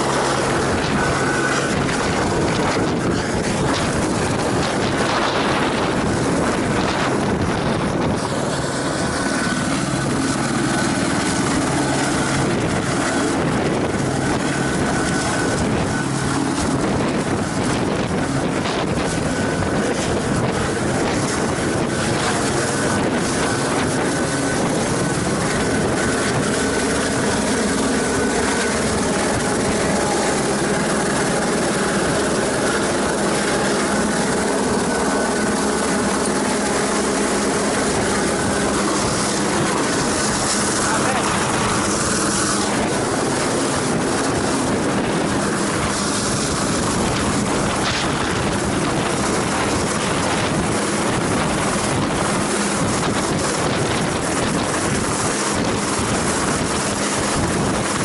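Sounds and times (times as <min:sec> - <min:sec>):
helicopter engine and rotor chop: 0:00.0 - 0:58.0.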